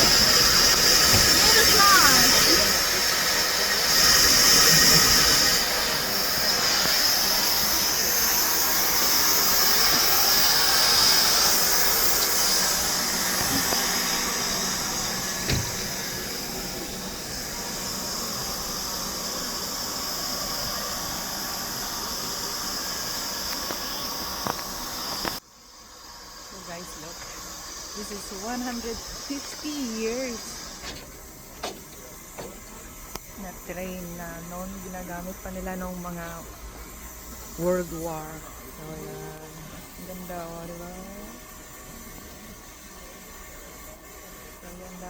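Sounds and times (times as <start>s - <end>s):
steam locomotive hissing steam: 0.0s - 45.0s.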